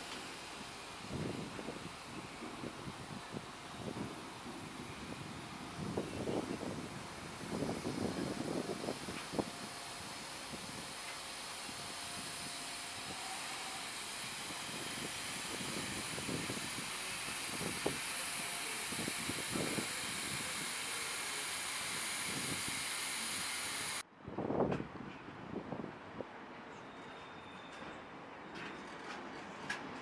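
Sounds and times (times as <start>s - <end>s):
train wheels hissing on rail: 0.0s - 24.1s.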